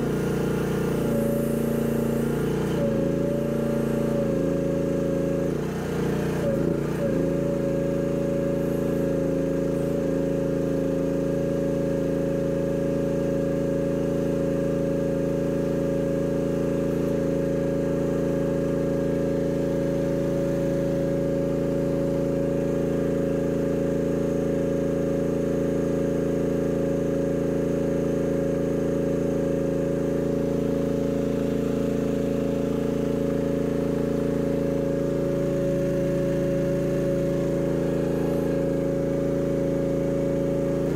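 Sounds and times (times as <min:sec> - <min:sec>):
excavator engine droning: 0:00.0 - 0:40.9.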